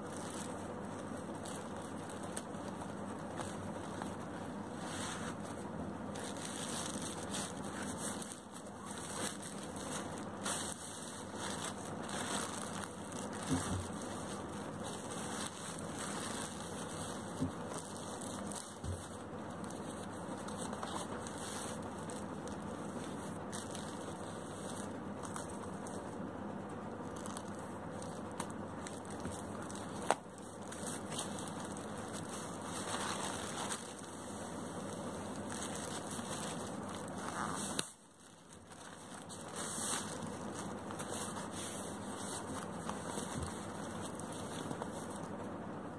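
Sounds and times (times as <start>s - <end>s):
plastic packaging rustling: 0.0s - 26.2s, 27.0s - 45.5s.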